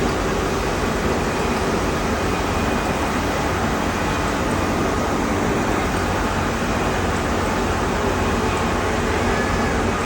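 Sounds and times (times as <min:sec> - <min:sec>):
machinery humming and rumbling: 0:00.0 - 0:10.0.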